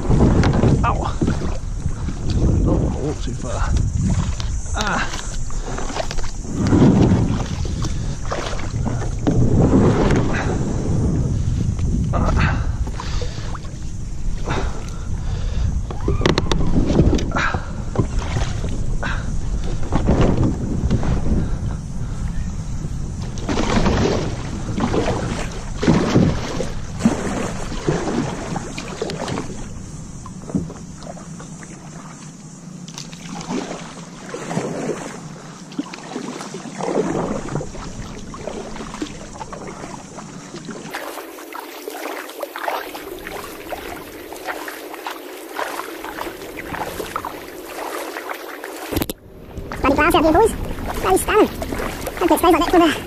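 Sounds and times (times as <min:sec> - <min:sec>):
paddle strokes splashing water: 0:00.0 - 0:53.0.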